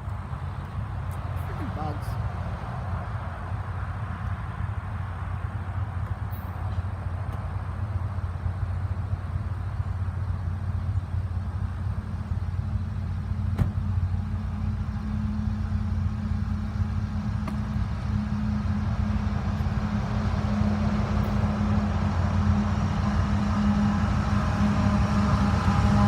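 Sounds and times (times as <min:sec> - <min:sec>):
diesel locomotive engine hum: 0:00.0 - 0:26.0.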